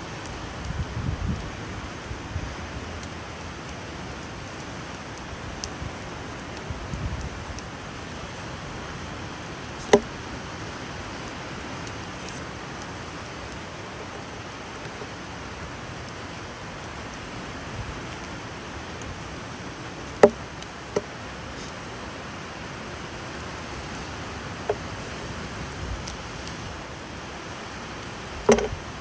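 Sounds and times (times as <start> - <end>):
ocean surf: 0.0 - 29.0
wind: 0.0 - 29.0.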